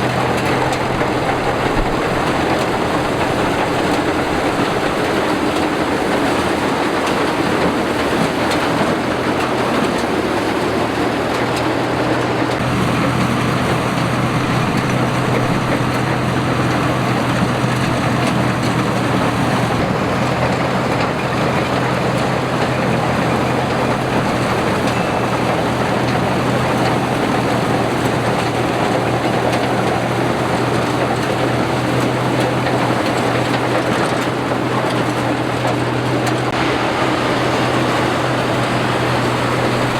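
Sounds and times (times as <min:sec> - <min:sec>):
combine harvester engine hum: 0:00.0 - 0:39.9
threshing machinery rattling: 0:00.0 - 0:39.9.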